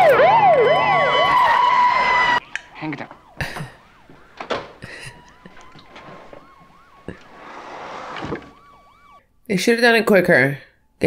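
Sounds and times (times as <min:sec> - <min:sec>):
police siren yelping: 0:00.0 - 0:09.2
steady siren tone: 0:00.0 - 0:09.2.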